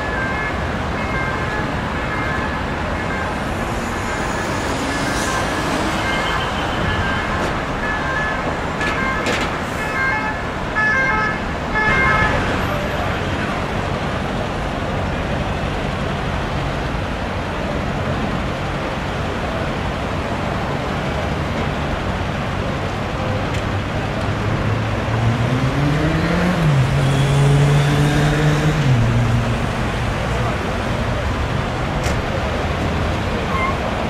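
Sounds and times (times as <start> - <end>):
heavy vehicle engine: 0.0 - 34.0
motorway traffic noise: 0.0 - 34.0.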